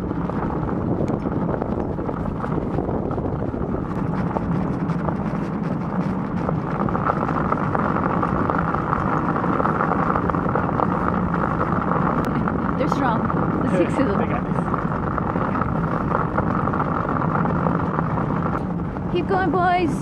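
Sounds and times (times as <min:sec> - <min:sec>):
sled runners scraping on snow: 0:00.0 - 0:19.9
wind on microphone: 0:00.0 - 0:20.0.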